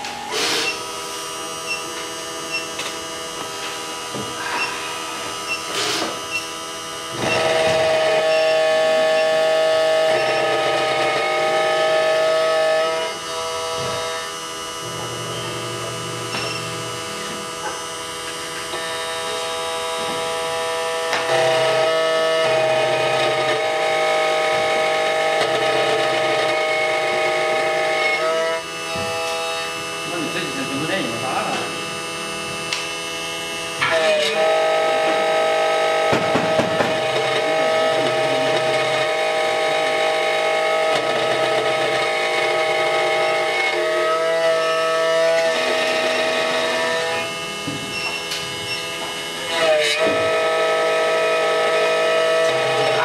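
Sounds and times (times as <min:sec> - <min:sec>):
key cutting machine whining: 0:00.0 - 0:53.0.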